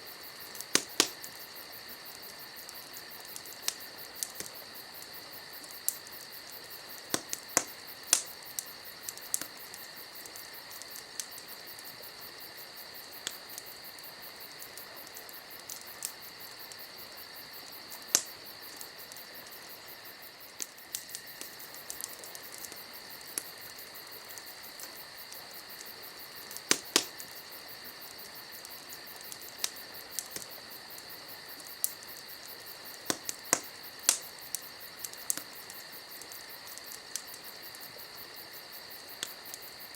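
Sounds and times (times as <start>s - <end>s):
campfire crackling and popping: 0.0s - 39.9s
crickets trilling: 0.0s - 39.9s.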